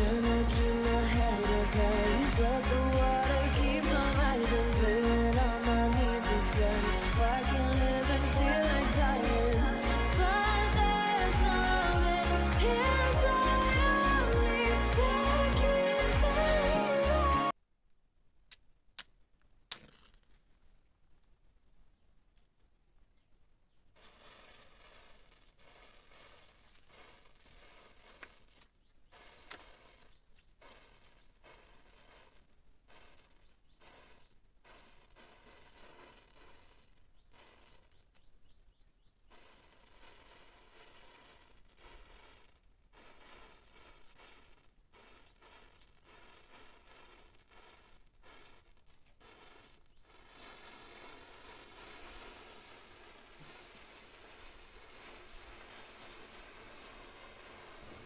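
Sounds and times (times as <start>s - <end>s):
matches burning with crackling fizz: 0.0s - 17.6s, 24.0s - 38.6s, 39.2s - 58.0s.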